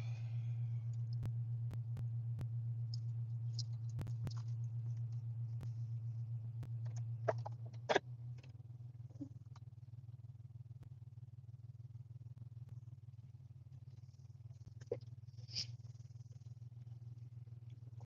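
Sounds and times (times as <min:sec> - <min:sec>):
low hum inside car: 0:00.0 - 0:18.0.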